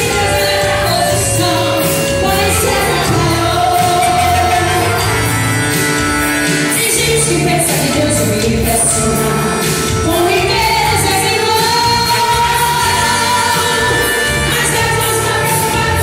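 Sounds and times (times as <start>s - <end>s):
women singing gospel song: 0.0s - 5.3s, 6.5s - 16.0s
instrumental accompaniment: 0.0s - 16.0s.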